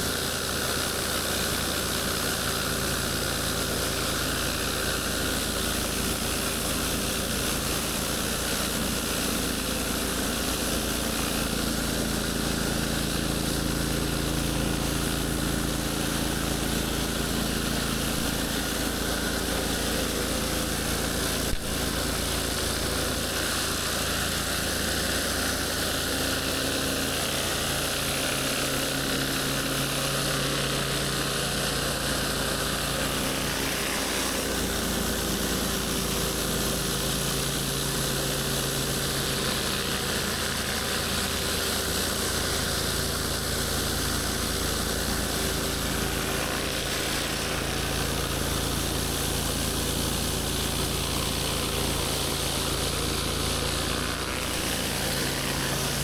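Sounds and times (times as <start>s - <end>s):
high-pressure water spray hiss: 0.0s - 13.9s, 20.8s - 30.7s, 32.8s - 53.4s, 54.3s - 56.0s
pressure washer engine drone: 0.0s - 56.0s.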